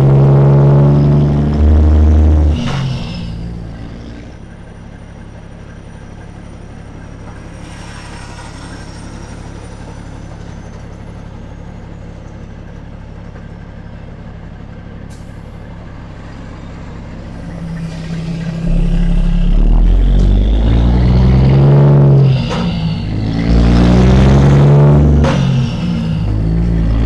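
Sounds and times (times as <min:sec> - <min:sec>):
truck diesel engine running: 0:00.0 - 0:27.0.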